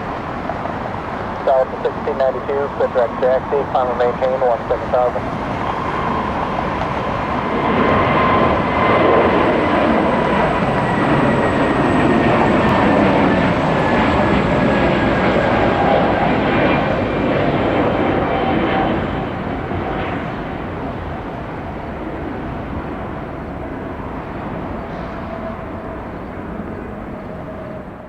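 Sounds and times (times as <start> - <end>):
jet aircraft taking off: 0.0 - 28.0.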